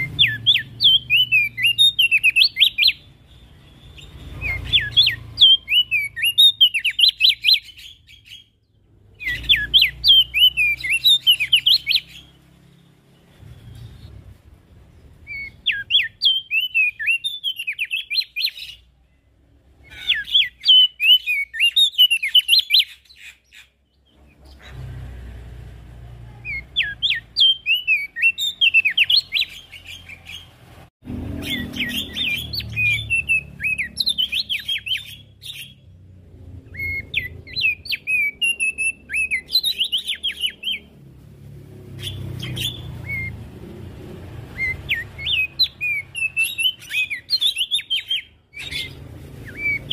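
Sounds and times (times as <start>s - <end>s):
bird chirping and twittering: 0.0s - 49.9s.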